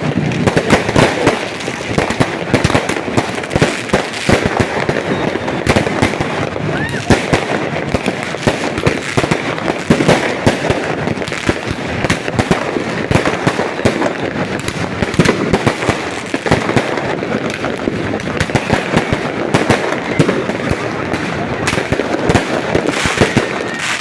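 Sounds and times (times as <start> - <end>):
fireworks banging: 0.0 - 24.0.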